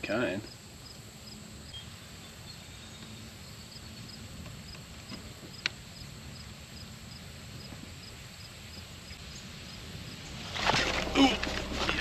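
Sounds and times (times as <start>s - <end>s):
insect chirping: 0.1s - 12.0s.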